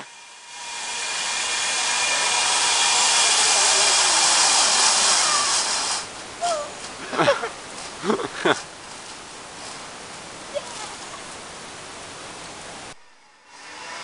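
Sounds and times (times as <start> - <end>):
high-pitched rushing hiss: 0.0 - 14.0.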